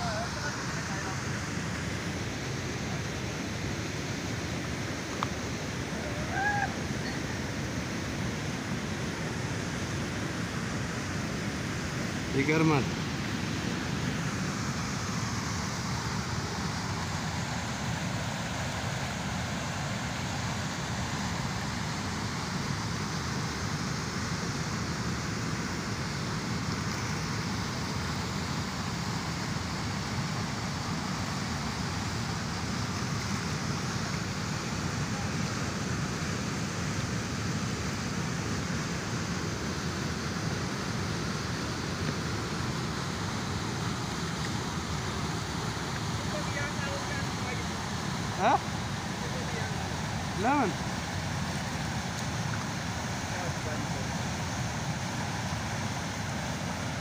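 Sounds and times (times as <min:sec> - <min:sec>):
water rushing over dam: 0:00.0 - 0:57.0.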